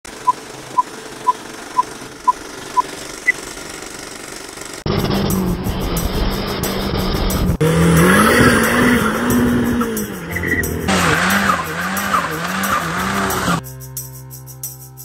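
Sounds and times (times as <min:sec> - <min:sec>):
car engine rising and falling: 0:00.0 - 0:13.6.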